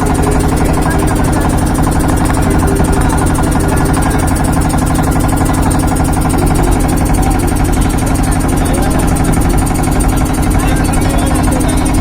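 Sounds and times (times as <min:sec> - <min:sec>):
loud pulsing engine-like drone: 0:00.0 - 0:12.0.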